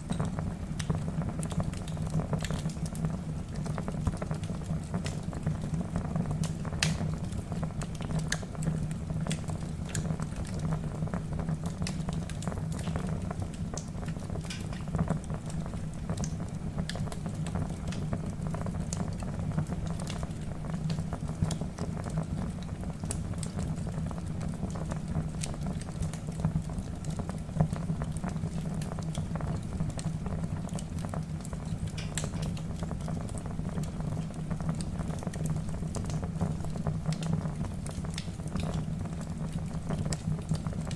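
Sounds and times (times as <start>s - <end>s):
fire crackling and popping: 0.0s - 40.9s
fire rumbling: 0.0s - 40.9s.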